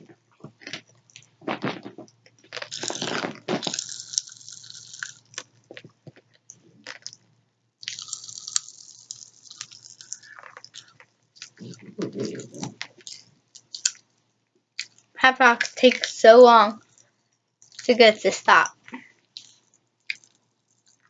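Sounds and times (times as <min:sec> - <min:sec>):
popping candy crackling: 0:00.4 - 0:14.2, 0:14.8 - 0:16.2, 0:17.6 - 0:21.0.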